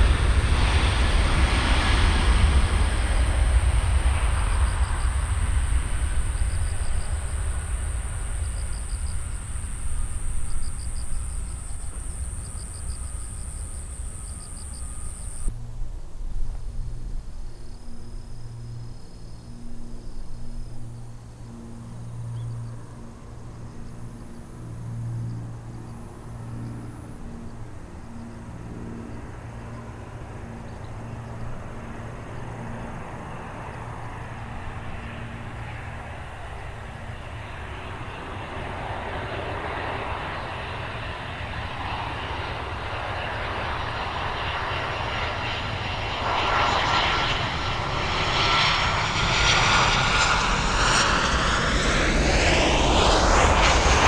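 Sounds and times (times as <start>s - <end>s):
jet engine and tyre rumble: 0.0s - 54.0s
jet engine noise on approach: 0.0s - 54.0s.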